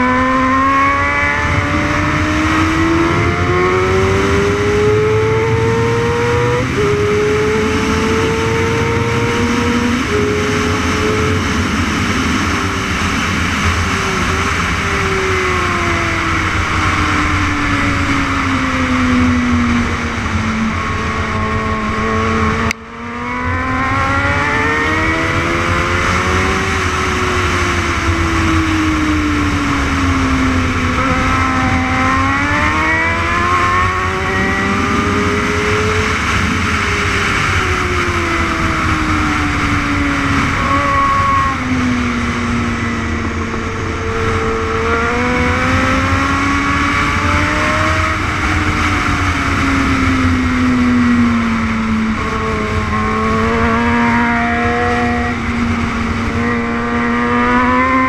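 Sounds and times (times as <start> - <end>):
motorcycle engine at full throttle: 0.0 - 58.0
wind rush: 0.0 - 58.0.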